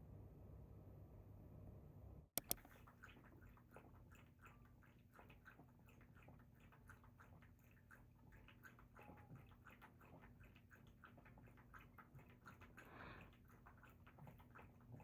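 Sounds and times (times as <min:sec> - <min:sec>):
dog chewing food: 0:02.5 - 0:15.0.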